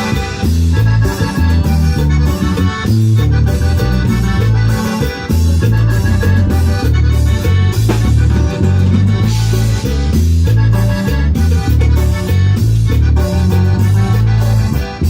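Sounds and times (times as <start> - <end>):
bouncing bass line: 0.0 - 15.0
keyboard melody: 0.0 - 15.0.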